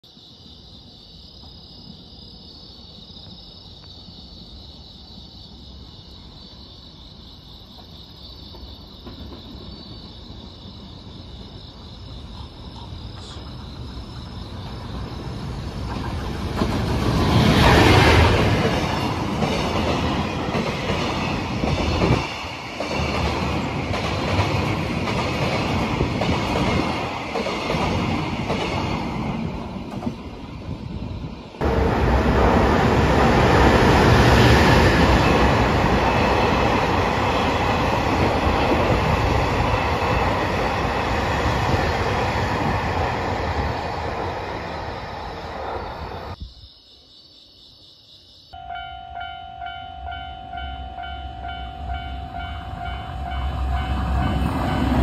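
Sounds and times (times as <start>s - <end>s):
freight train passing: 4.4s - 46.4s, 48.6s - 55.0s.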